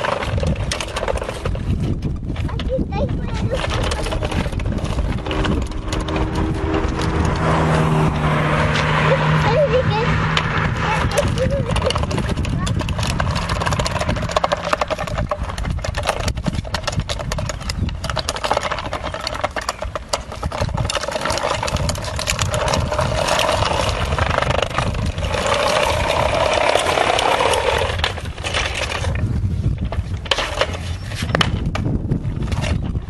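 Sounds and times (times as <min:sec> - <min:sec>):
plastic toy wheels rattling on paving: 0:00.0 - 0:33.0.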